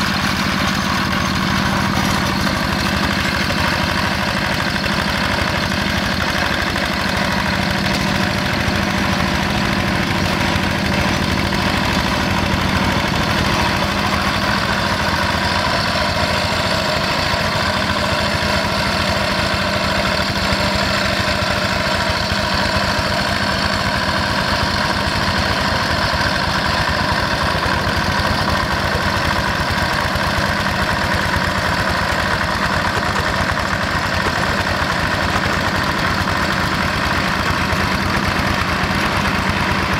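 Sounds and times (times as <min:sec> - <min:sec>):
diesel engine knocking under load: 0:00.0 - 0:39.9.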